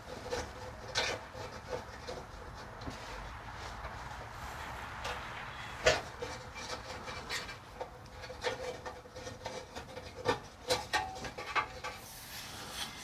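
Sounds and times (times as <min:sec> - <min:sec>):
small clicks and scrapes: 0:00.0 - 0:13.0.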